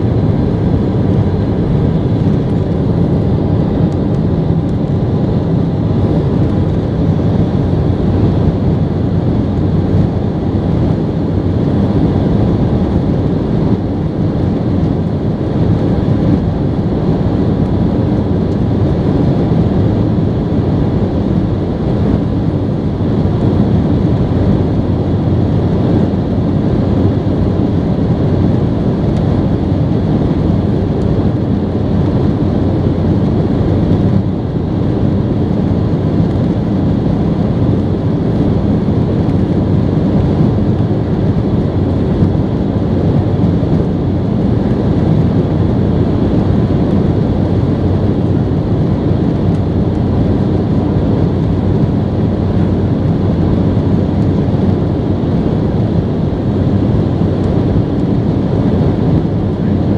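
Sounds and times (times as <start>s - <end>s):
faint steady whine: 0.0s - 59.9s
jet engines rushing: 0.0s - 59.9s.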